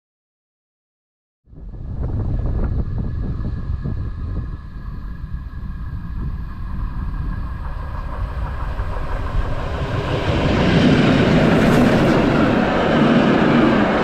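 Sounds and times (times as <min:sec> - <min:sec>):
train rolling on track: 0:02.2 - 0:14.0.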